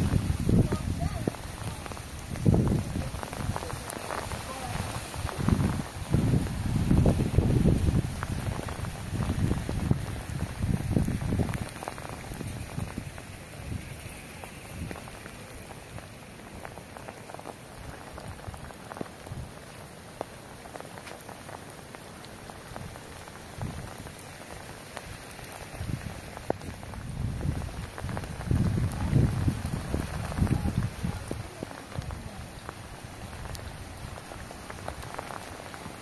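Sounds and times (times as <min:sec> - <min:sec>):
wind rumble on microphone: 0:00.0 - 0:20.0, 0:22.6 - 0:36.0
rain falling on wet ground: 0:00.0 - 0:36.0.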